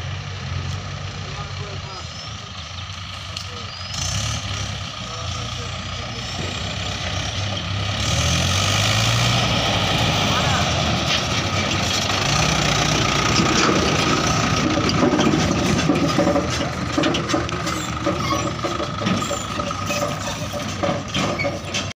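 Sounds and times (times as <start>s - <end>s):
heavy diesel engine running: 0.0s - 21.9s.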